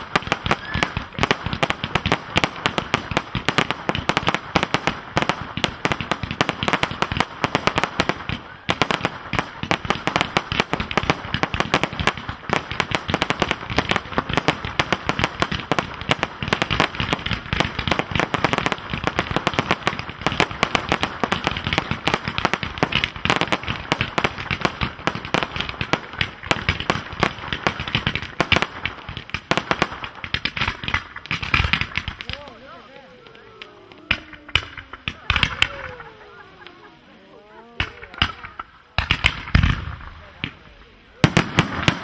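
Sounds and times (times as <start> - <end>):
fireworks crackle: 0.0 - 42.0
fireworks launching and bursting: 0.0 - 42.0.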